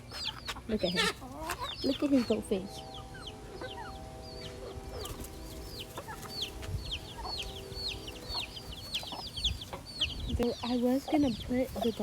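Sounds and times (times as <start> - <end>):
chicks peeping: 0.0 - 12.0
faint steady hum: 1.1 - 12.0.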